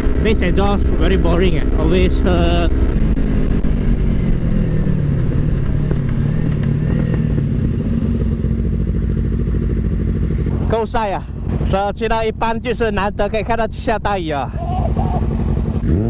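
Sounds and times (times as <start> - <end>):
motorcycle engine while riding: 0.0 - 16.0.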